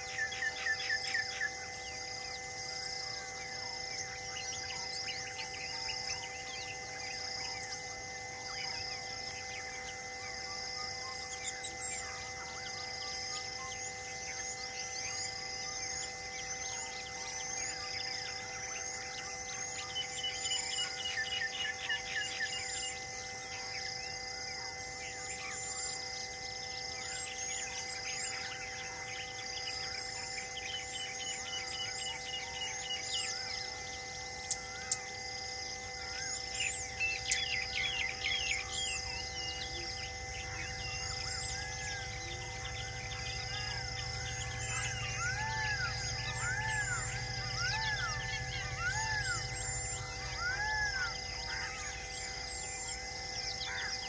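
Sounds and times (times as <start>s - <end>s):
birds chirping and trilling: 0.0s - 54.0s
low hum: 0.0s - 54.0s
steady droning tone: 0.0s - 54.0s.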